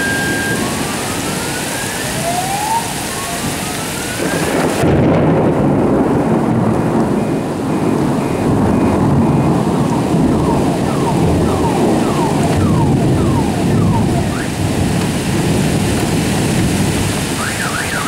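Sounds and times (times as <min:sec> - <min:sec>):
heavy rain pouring: 0:00.0 - 0:18.0
low thunder rumble: 0:00.0 - 0:18.0.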